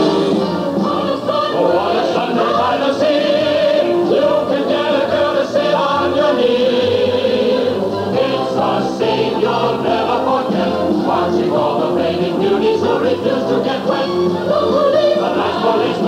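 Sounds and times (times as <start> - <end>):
musical accompaniment: 0.0 - 16.0
vocal group singing in harmony: 0.0 - 16.0.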